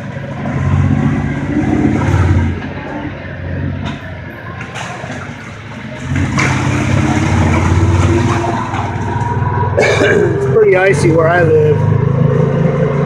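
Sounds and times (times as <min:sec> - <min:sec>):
vehicle engine accelerating: 0:00.0 - 0:13.0.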